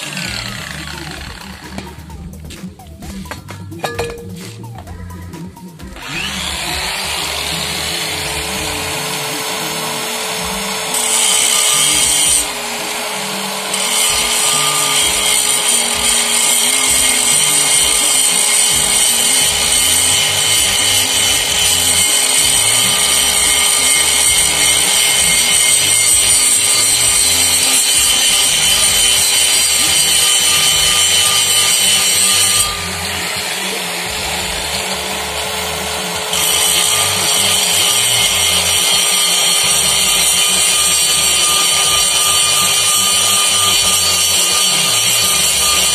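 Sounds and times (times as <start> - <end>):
angle grinder motor whining: 0.0 - 3.8, 5.8 - 45.9
disc grinding metal: 0.0 - 5.2, 5.8 - 45.9.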